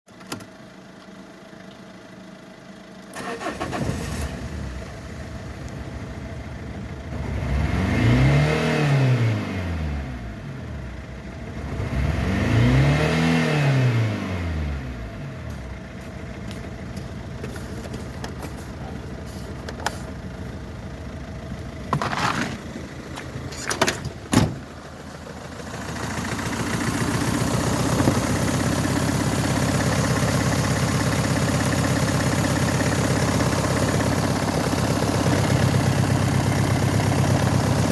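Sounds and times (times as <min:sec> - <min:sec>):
diesel engine idling and revving: 0:00.5 - 0:37.9.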